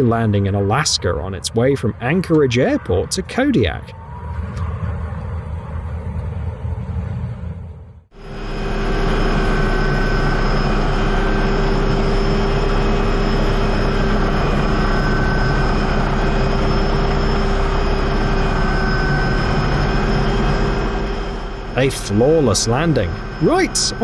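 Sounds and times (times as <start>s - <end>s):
propeller engines droning: 0.0s - 24.0s.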